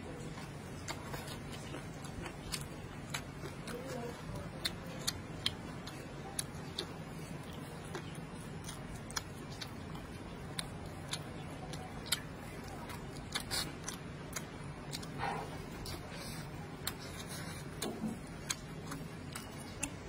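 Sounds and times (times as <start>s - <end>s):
chewing with mouth clicks: 0.0s - 20.0s
steady low hum: 0.0s - 20.0s.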